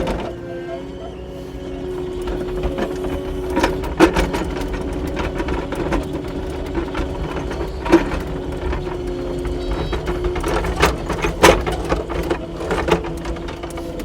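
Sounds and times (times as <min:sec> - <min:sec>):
clatter of knocks and clanks: 0:00.0 - 0:00.6, 0:01.8 - 0:14.0
engine and hydraulic hum: 0:00.0 - 0:14.0.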